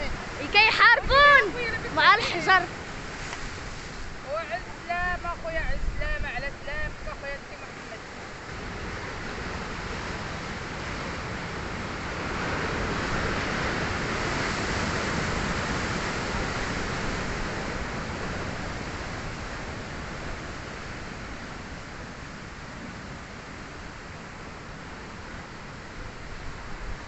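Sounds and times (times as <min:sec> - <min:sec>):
surf breaking against rocks: 0:00.0 - 0:23.0.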